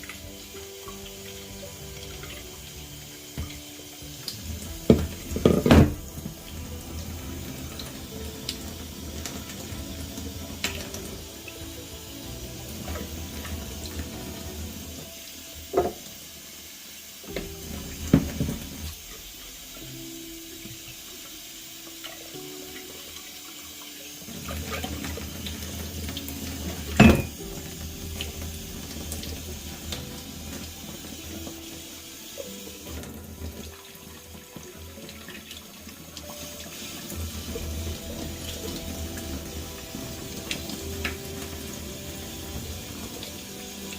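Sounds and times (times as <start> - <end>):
water running from a tap: 0.0 - 43.9.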